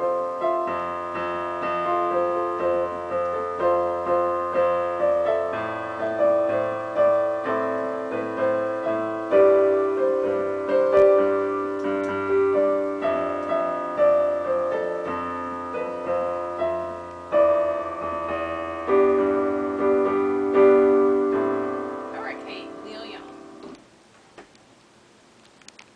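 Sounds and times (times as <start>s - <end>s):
slow digital piano: 0.0s - 24.0s.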